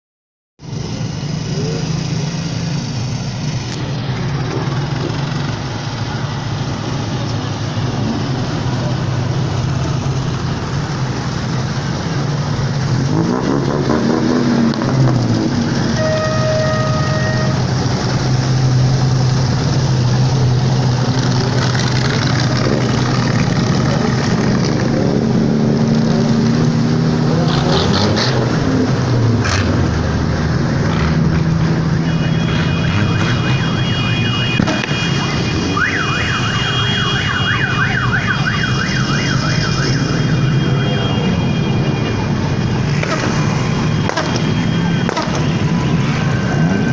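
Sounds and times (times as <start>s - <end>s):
vehicle engines idling and revving: 0.6s - 46.9s.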